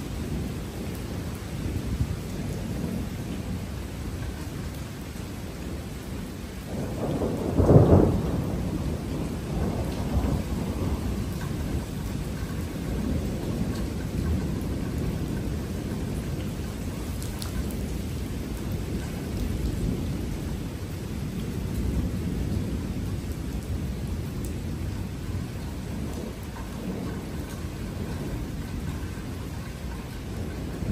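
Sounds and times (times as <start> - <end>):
rain hissing: 0.0 - 30.9
thunder clap and rumble: 0.0 - 30.9.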